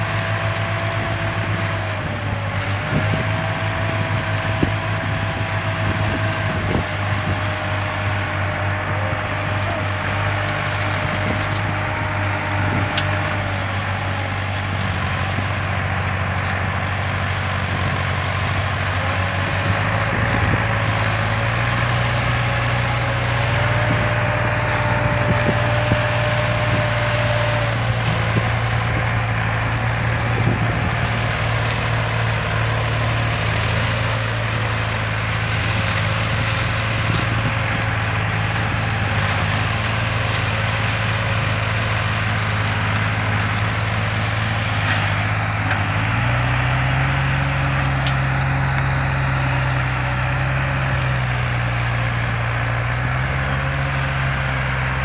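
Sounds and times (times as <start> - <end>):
dry cane crackling under tyres: 0.0 - 55.0
tractor diesel engines running hard: 0.0 - 55.0.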